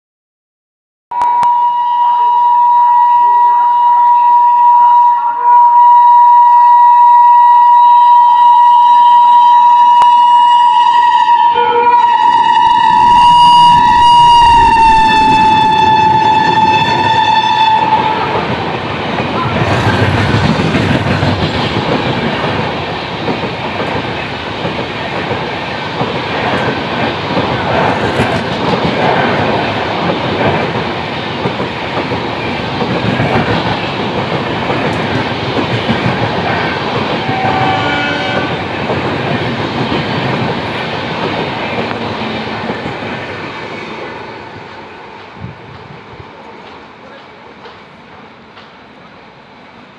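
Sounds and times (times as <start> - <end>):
train rumbling past: 9.4 - 49.9.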